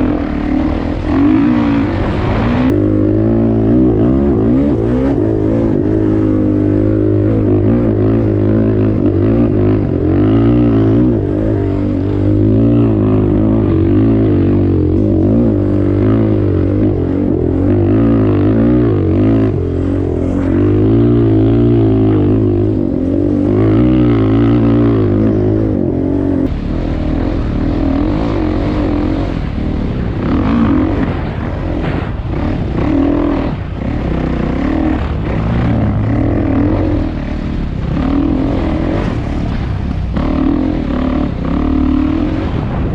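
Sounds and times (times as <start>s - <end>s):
off-road motorcycle engine running: 0.0s - 42.9s.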